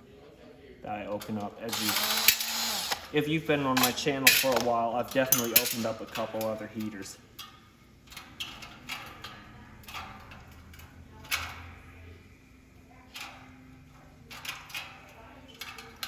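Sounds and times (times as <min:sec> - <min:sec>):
small parts clicking and knocking: 0:01.1 - 0:11.9, 0:12.9 - 0:16.0.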